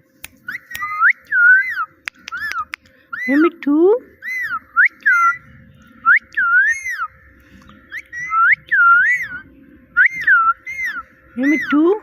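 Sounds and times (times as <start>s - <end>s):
parrot whistling: 0.4s - 3.4s, 4.2s - 7.1s, 7.9s - 11.9s.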